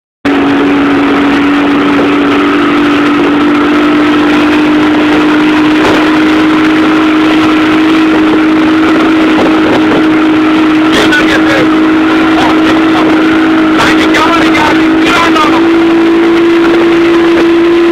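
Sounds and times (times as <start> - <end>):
humming drone: 0.3 - 17.9.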